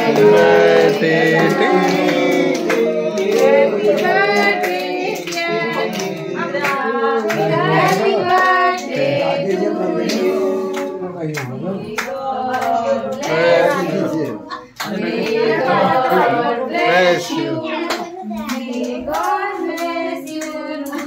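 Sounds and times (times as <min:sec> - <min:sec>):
hand clapping: 0:00.0 - 0:16.4, 0:17.8 - 0:21.0
group singing: 0:00.0 - 0:21.0.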